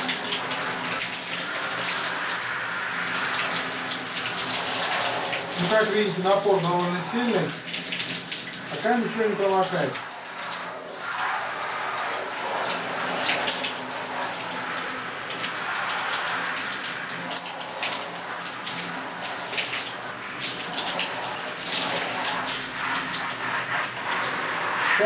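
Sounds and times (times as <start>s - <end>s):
shower water spraying on fabric: 0.0s - 25.0s.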